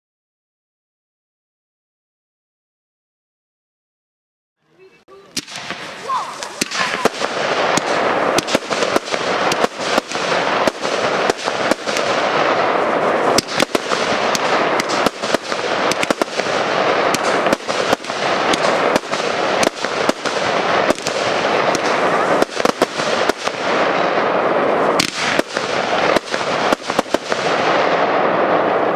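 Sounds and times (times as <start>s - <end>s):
crackling firework hiss: 4.8s - 28.9s
firework bangs: 5.1s - 28.9s.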